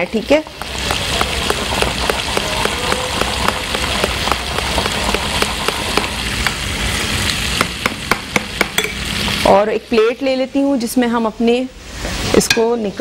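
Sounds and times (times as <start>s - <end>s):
fritters deep-frying in oil: 0.0s - 11.1s.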